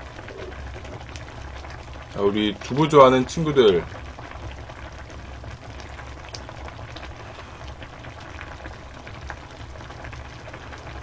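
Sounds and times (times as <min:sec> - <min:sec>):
stew bubbling in pot: 0:00.0 - 0:11.0.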